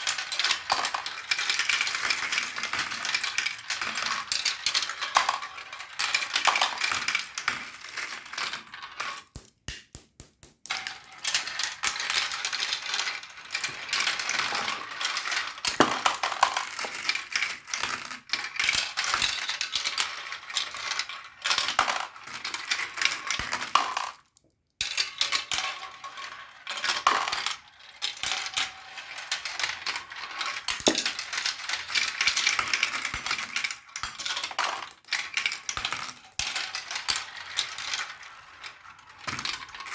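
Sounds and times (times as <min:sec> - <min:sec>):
marbles clattering down a run: 0:00.0 - 0:09.4, 0:10.7 - 0:39.9.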